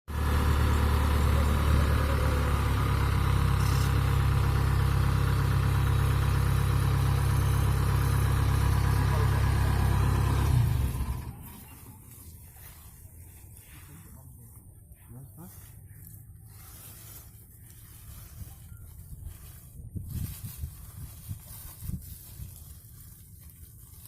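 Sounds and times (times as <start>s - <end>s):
diesel engine droning: 0.1s - 21.2s.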